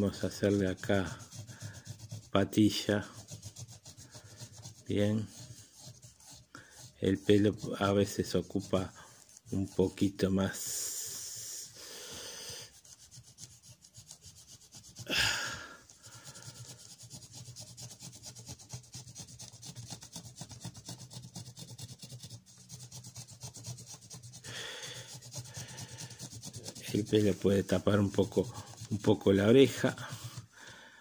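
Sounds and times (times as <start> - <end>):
pencil scratching on paper: 0.0 - 30.6.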